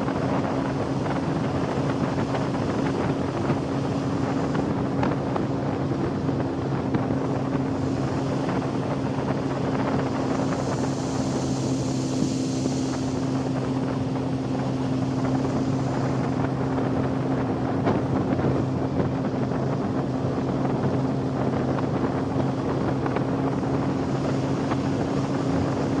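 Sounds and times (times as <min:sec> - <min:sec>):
boat engine humming: 0:00.0 - 0:26.0
wind buffeting microphone: 0:00.0 - 0:26.0.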